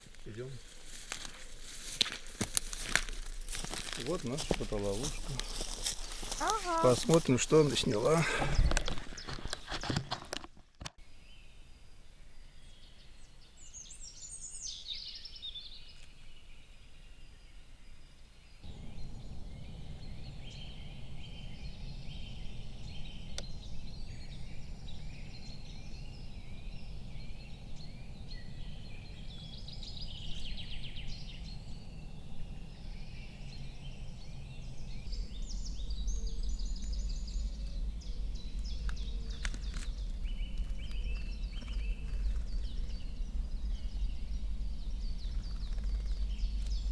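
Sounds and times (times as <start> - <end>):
small birds chirping and trilling: 2.6 - 10.2, 11.2 - 46.9.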